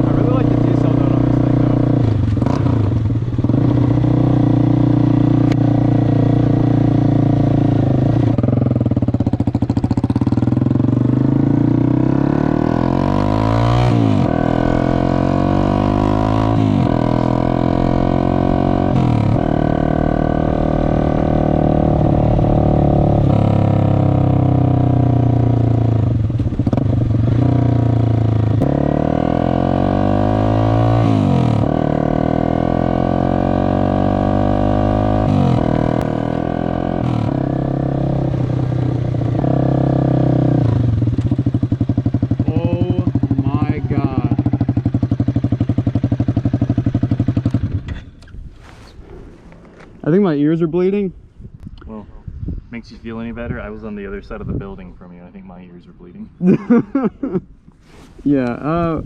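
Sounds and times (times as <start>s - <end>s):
loud motorcycle engine: 0.0s - 48.0s.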